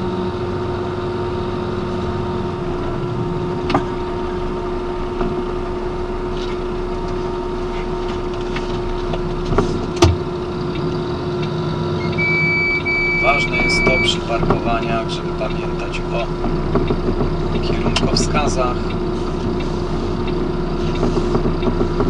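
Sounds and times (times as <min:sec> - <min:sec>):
diesel lorry engine idling: 0:00.0 - 0:22.0.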